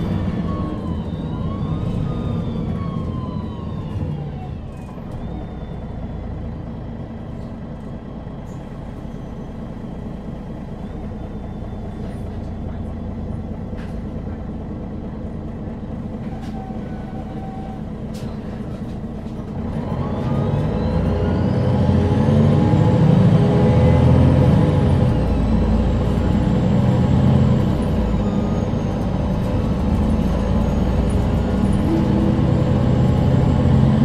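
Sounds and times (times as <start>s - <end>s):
bus diesel engine: 0.0s - 34.0s.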